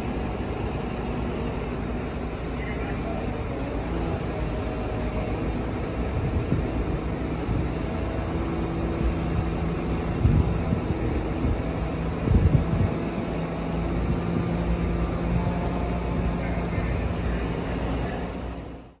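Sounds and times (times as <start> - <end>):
crane diesel engines droning: 0.0 - 19.0.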